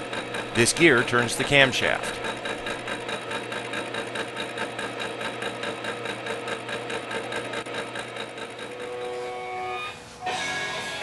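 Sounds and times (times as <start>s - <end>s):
gear cutter ticking: 0.0s - 9.2s
motor hum: 0.0s - 11.0s.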